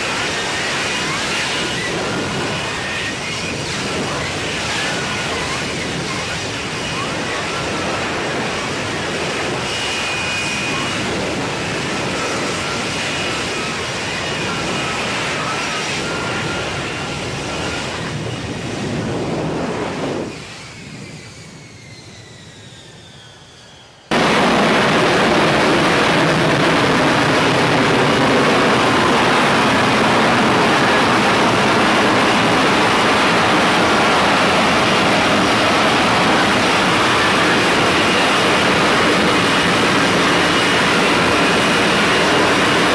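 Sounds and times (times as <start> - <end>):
hovering jet roar: 0.0 - 42.9
jet engine roaring with high whine: 0.0 - 42.9.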